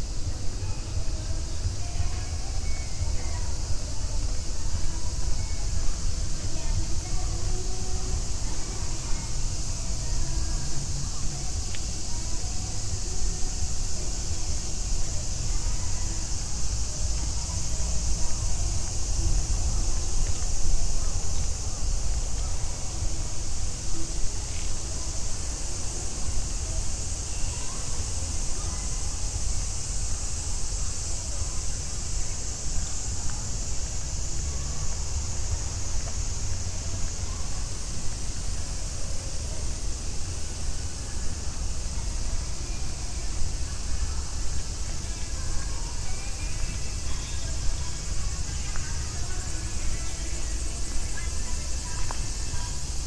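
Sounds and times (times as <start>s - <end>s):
cicadas chorus: 0.0s - 53.0s
city traffic rumble: 0.0s - 53.0s
faint voices: 0.0s - 53.0s.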